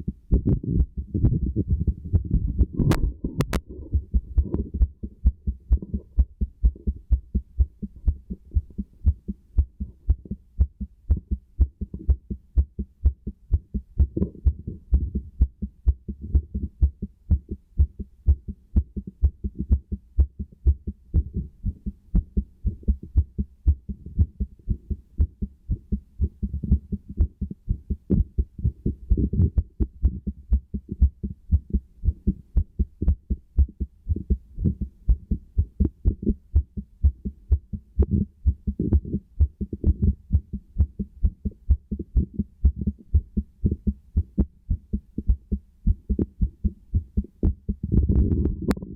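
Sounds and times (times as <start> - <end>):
heartbeat through stethoscope: 0.0 - 48.9.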